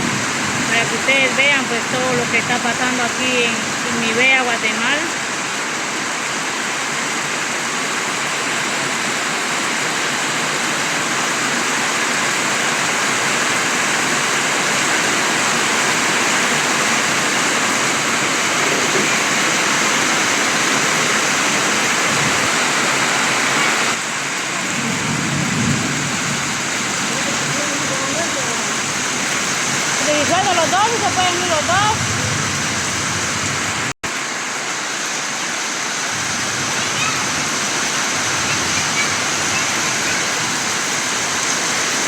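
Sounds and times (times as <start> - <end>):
heavy rain pouring: 0.0 - 42.0
water rushing: 0.0 - 42.0.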